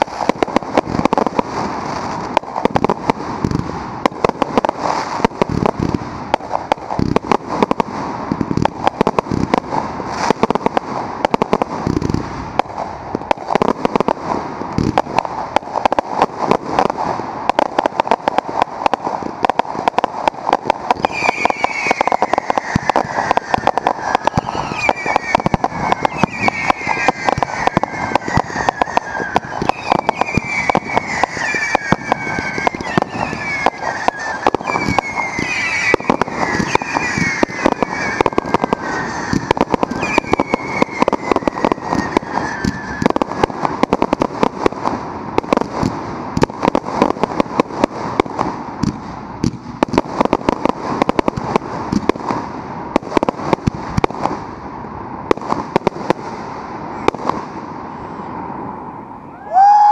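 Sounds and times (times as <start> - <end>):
falling firework whistles: 0.0 - 52.1, 59.2 - 59.9
fireworks bangs and crackling: 0.0 - 59.9.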